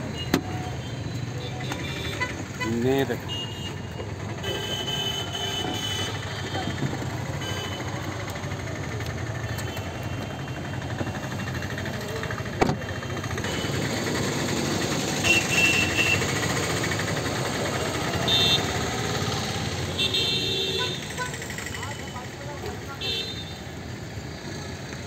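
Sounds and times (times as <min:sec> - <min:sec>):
car engine idling: 0:00.0 - 0:22.8.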